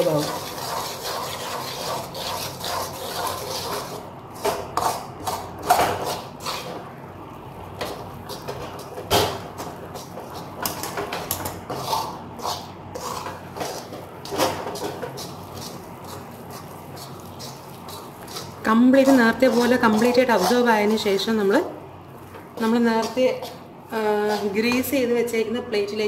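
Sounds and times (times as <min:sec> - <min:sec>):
spoon scraping thick batter in pan: 0:00.0 - 0:06.9, 0:07.8 - 0:21.4, 0:22.1 - 0:24.9.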